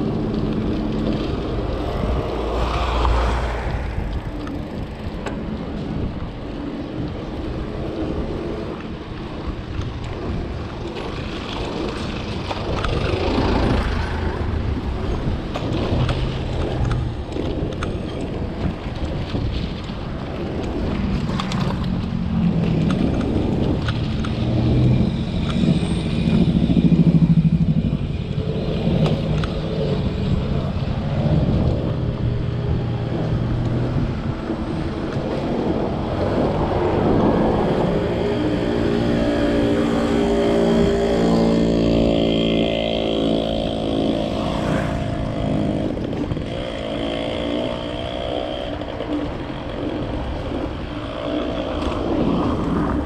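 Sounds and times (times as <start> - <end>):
engine humming: 0.0 - 53.0
traffic: 0.0 - 53.0
wind and road rumble: 0.0 - 53.0.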